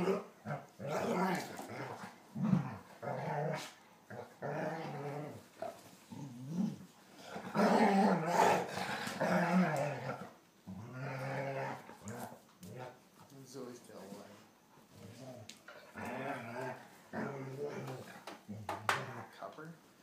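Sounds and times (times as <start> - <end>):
dogs growling while play-fighting: 0.0 - 13.0, 14.9 - 18.7.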